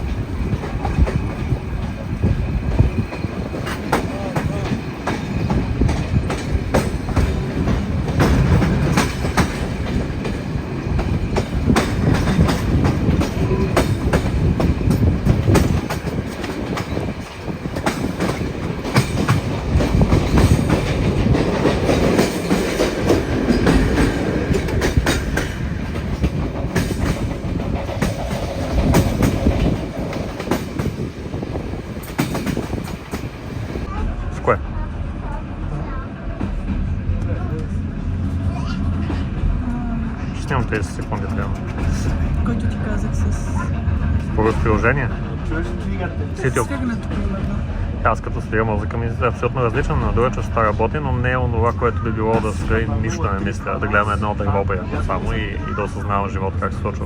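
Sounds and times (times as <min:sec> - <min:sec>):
train rumbling along rails: 0:00.0 - 0:57.0.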